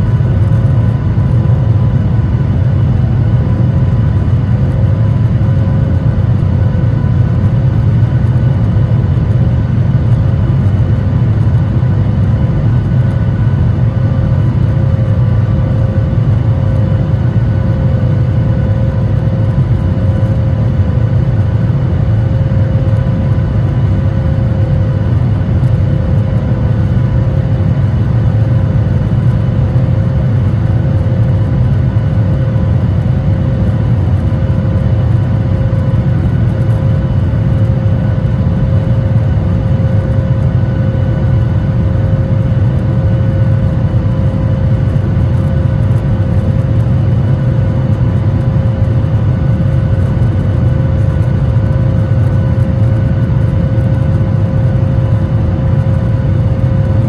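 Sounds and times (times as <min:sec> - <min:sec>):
jet engine deep roar: 0:00.0 - 0:57.0.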